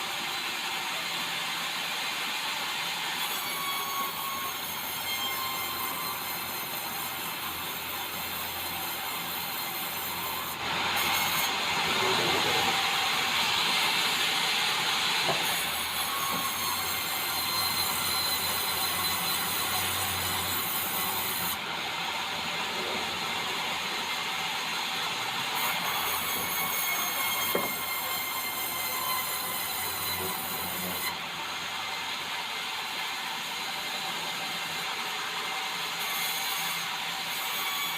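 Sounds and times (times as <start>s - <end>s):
sawmill blade sawing log: 0.0s - 37.9s.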